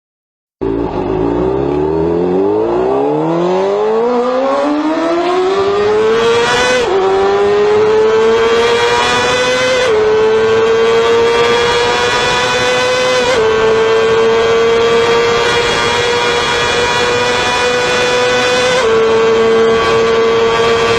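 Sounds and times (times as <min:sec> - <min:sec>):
motorcycle engine accelerating: 0:00.6 - 0:20.9.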